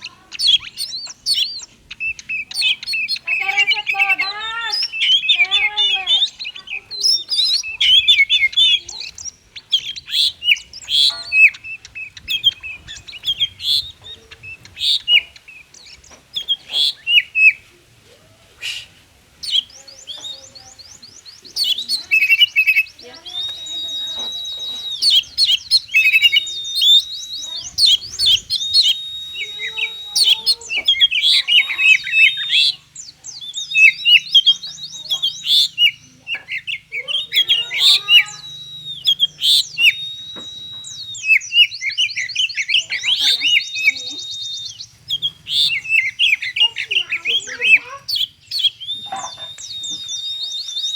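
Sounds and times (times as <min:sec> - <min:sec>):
bird repeated notes: 0:00.0 - 0:17.7, 0:19.4 - 0:50.9
long level bird whistles: 0:00.0 - 0:17.7, 0:18.6 - 0:50.9
bird chirps and trills: 0:00.0 - 0:50.9.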